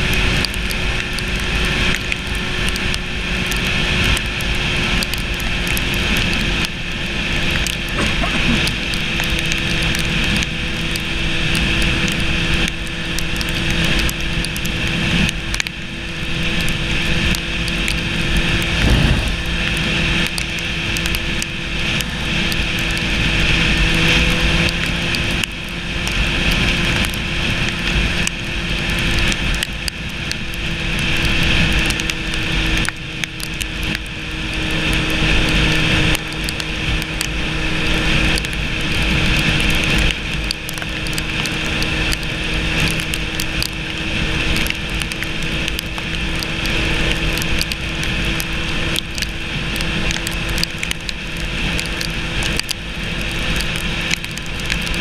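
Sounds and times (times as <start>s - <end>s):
motorcycle engine drone: 0.0s - 55.0s
wind rushing over motorcycle: 0.0s - 55.0s.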